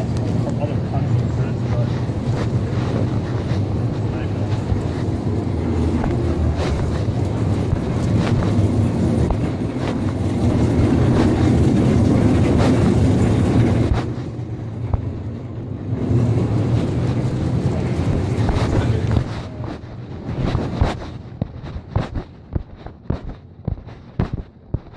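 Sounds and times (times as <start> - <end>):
clothing rubbing against microphone: 0.0 - 15.3, 16.0 - 24.9.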